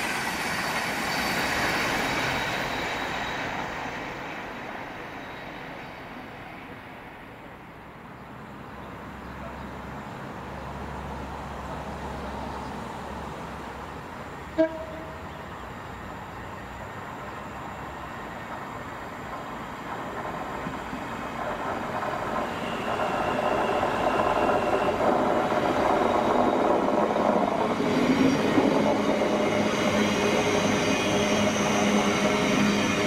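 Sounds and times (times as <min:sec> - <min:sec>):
electric train passing at speed: 0:00.0 - 0:33.0
train rumble with low hum: 0:00.0 - 0:33.0.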